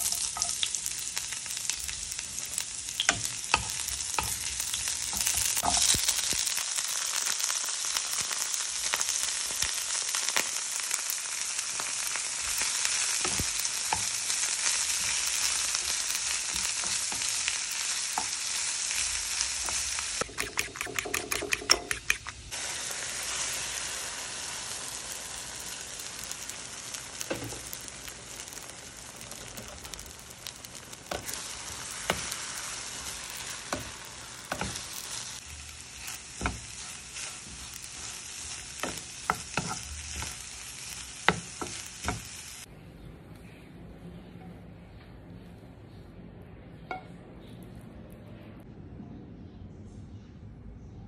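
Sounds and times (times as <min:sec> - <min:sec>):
food sizzling in frying pan: 0:00.0 - 0:42.7.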